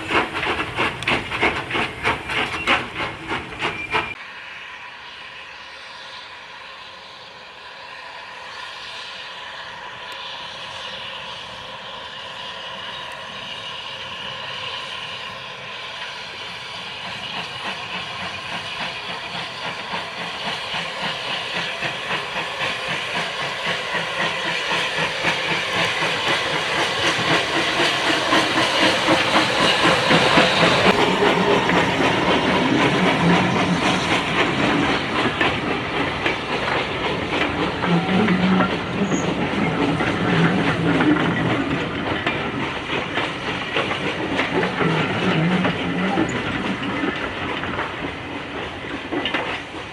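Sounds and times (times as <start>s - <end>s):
steam hiss: 0.0s - 49.9s
steam locomotive exhaust beats: 0.0s - 49.9s.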